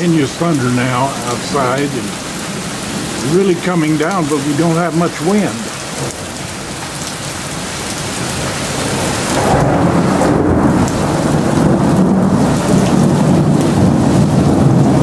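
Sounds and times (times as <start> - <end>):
thunder rumbling: 0.0 - 6.7, 7.6 - 15.0
heavy rain falling: 0.0 - 15.0.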